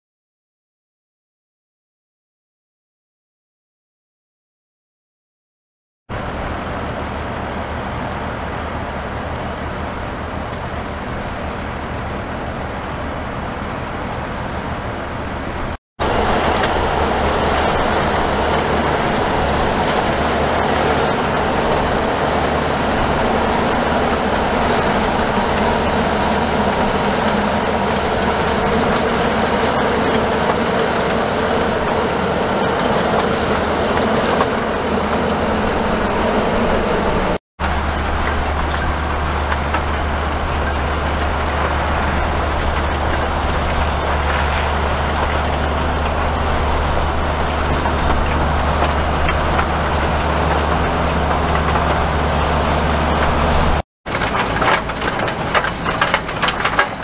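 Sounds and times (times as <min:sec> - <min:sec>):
tractor diesel engines running: 0:06.1 - 0:57.0.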